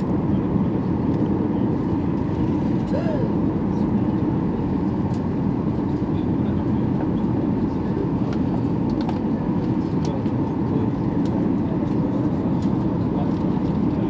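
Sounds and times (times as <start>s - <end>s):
jet airliner cabin noise: 0.0s - 14.0s.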